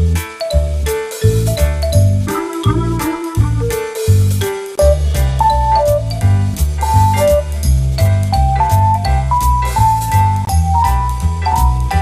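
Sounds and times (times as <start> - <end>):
jazzy background music: 0.0 - 12.0.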